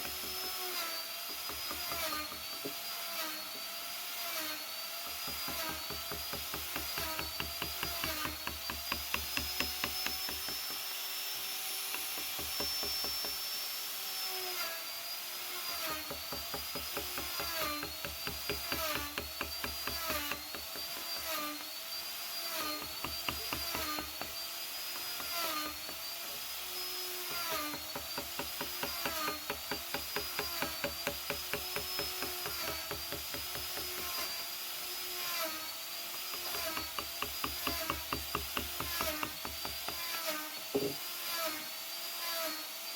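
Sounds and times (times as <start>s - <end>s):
power carving tool motor whine: 0.0s - 42.9s.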